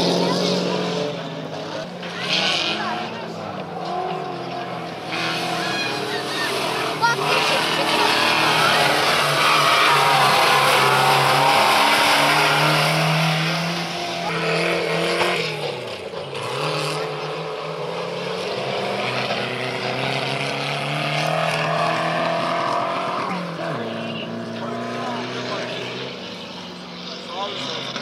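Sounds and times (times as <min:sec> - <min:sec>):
truck engines droning: 0:00.0 - 0:28.0.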